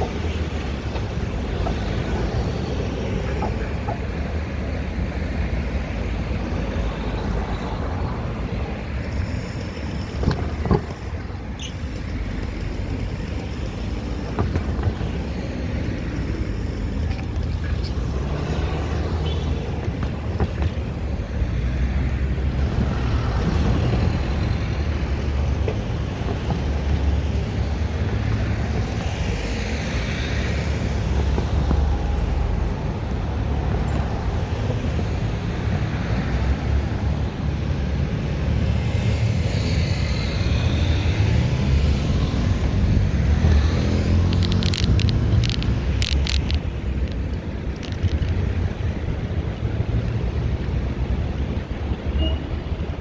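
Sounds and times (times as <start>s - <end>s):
cars passing by: 0.0s - 53.0s
low traffic rumble: 0.0s - 53.0s.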